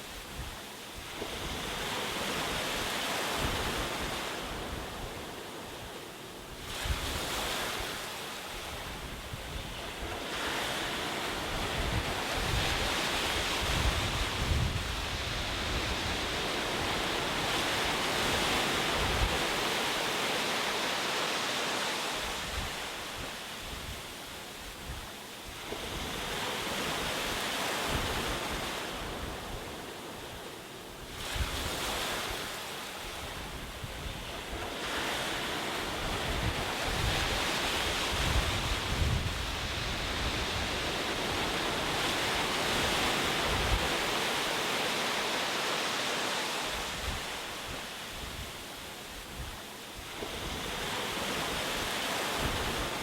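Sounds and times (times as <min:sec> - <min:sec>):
wind rumble on microphone: 0:00.0 - 0:20.0, 0:22.2 - 0:44.5, 0:46.7 - 0:53.0
waves breaking: 0:00.0 - 0:53.0.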